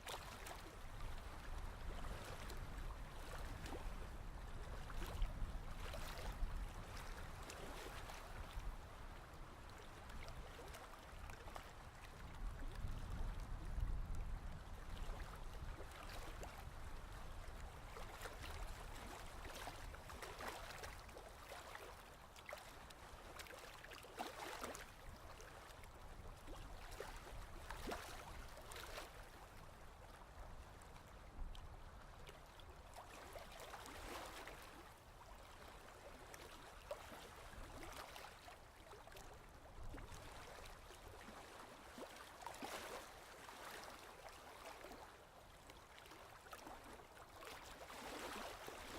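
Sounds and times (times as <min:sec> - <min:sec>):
faint ocean waves: 0:00.0 - 0:48.9.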